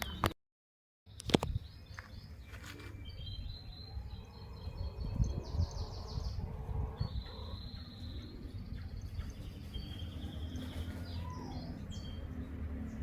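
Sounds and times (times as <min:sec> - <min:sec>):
small birds chirping: 0:00.0 - 0:00.3, 0:01.1 - 0:13.0.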